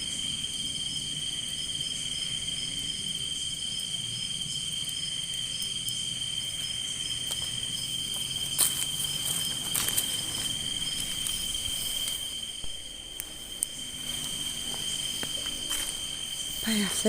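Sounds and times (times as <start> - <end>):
crickets trilling: 0.0 - 17.0
fast pulsing insect chirp: 0.0 - 17.0.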